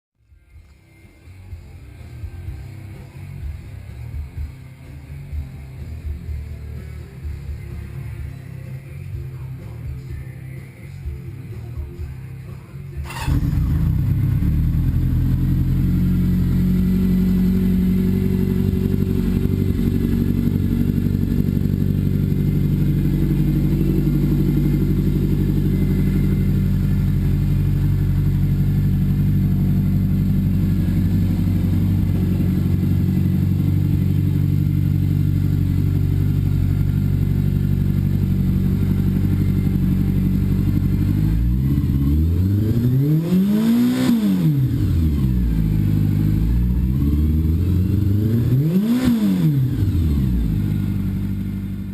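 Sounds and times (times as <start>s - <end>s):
motorcycle engine idling and revving: 0.2s - 51.9s.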